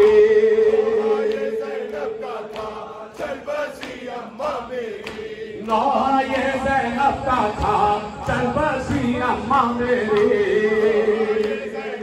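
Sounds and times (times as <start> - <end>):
men chanting along: 0.0 - 12.0
rhythmic hand strikes on chest: 0.0 - 12.0.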